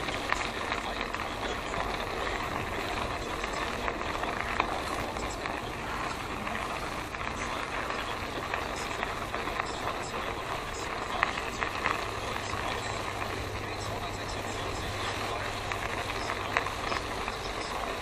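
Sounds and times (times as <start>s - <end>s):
bike tyres on asphalt: 0.0s - 18.0s.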